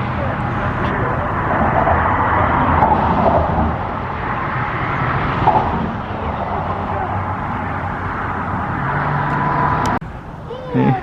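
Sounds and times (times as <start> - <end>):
passing car noise: 0.0 - 10.9
loud bump: 0.9 - 9.9.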